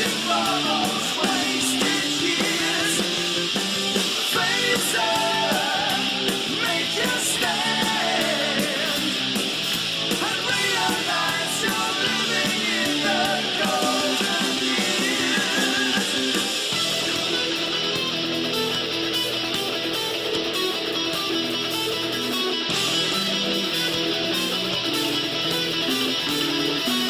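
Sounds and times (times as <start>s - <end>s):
rock music with guitar: 0.0s - 27.0s.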